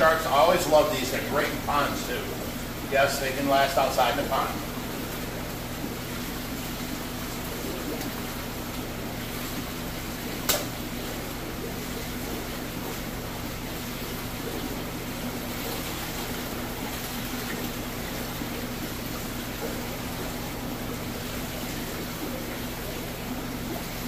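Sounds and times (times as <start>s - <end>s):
aquarium pumps running water: 0.0s - 24.0s.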